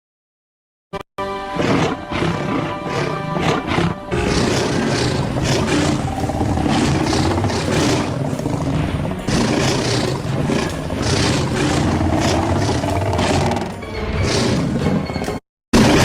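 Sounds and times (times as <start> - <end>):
big cat roaring and growling: 1.6 - 15.0.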